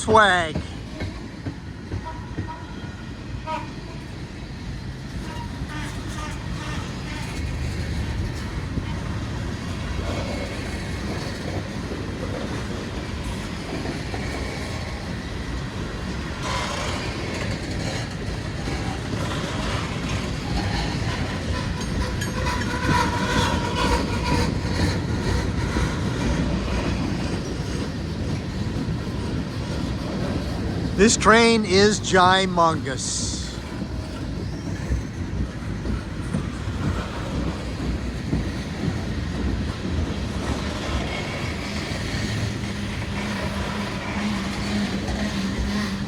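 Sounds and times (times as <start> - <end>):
freight train rumbling past: 0.0 - 46.0.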